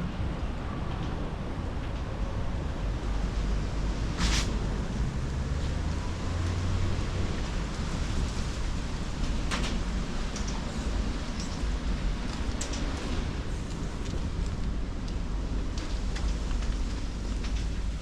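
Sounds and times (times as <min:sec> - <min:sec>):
storm wind gusting on microphone: 0:00.0 - 0:18.0.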